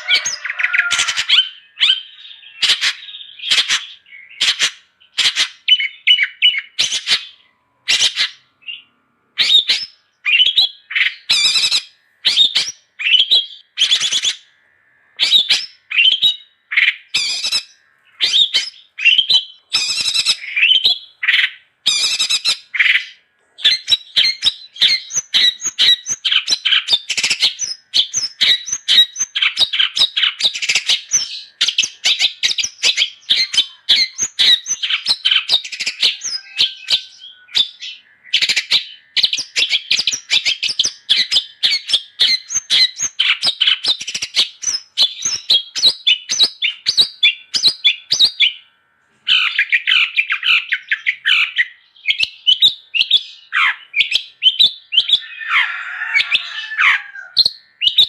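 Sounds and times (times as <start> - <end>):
bird harsh chirps and squawks: 0.0 - 48.7, 49.3 - 58.0.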